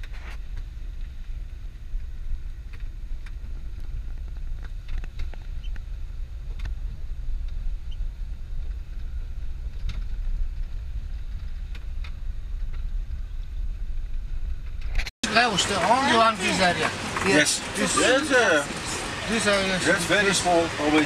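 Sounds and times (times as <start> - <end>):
vehicle rumbling over dirt track: 0.0 - 21.0.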